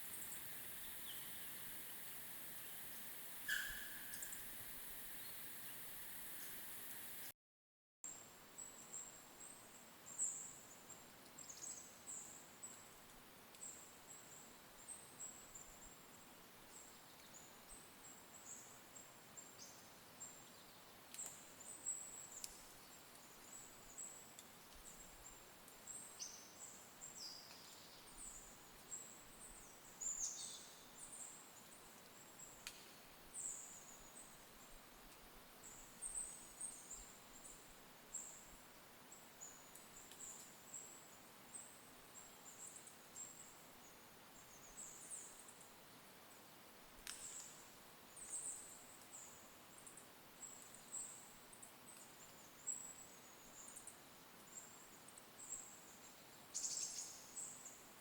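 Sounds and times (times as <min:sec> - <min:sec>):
small songbirds chirping: 0:00.0 - 0:07.3, 0:08.6 - 0:12.9, 0:13.5 - 0:34.8, 0:35.6 - 0:46.4, 0:47.0 - 0:58.0
soft steady hiss: 0:00.0 - 0:07.3, 0:08.1 - 0:58.0.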